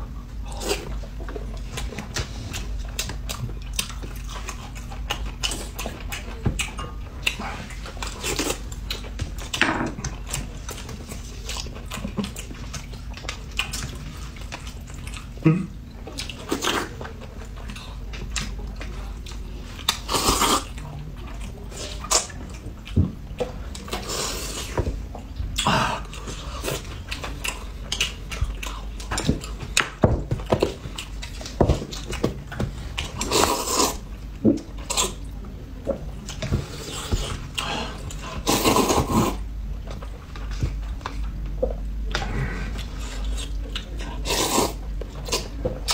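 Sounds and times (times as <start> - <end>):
chewing: 0.4 - 45.9.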